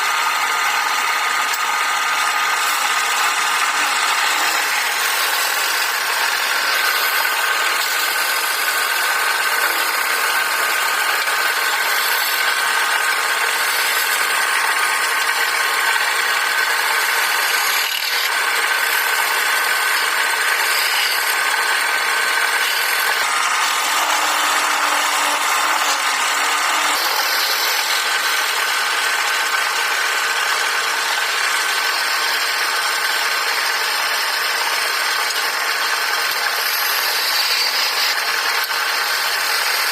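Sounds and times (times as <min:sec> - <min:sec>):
lathe motor whining: 0:00.0 - 0:39.9
tool rubbing spinning wood: 0:00.0 - 0:39.9.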